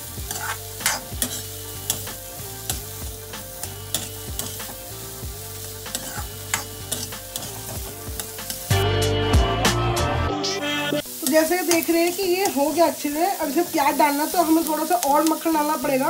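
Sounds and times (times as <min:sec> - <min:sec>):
vegetables sizzling in butter: 0:00.0 - 0:09.6, 0:10.9 - 0:16.0
background music: 0:00.0 - 0:16.0.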